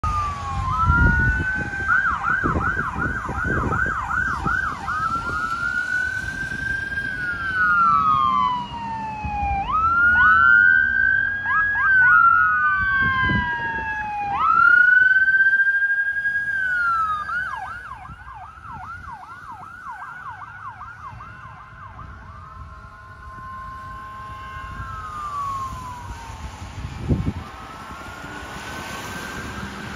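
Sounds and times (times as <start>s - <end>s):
ambulance siren wailing and yelping: 0.0s - 29.9s.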